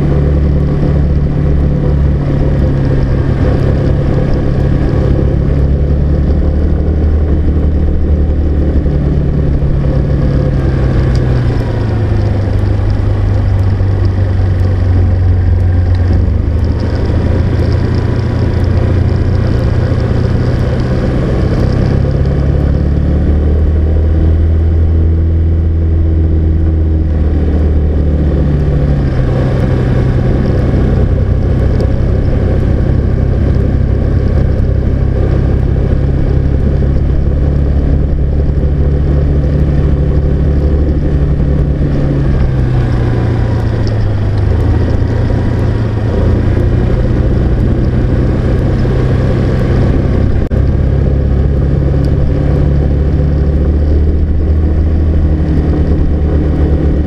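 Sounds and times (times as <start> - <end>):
car engine hum: 0.0 - 57.0
road noise: 0.0 - 57.0.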